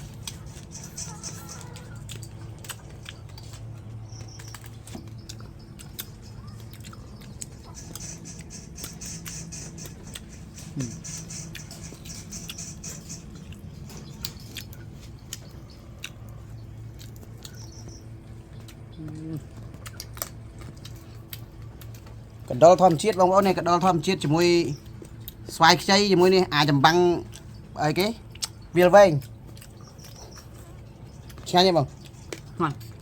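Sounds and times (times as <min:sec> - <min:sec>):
person chewing crunchy food: 0:00.0 - 0:23.0, 0:27.2 - 0:33.0.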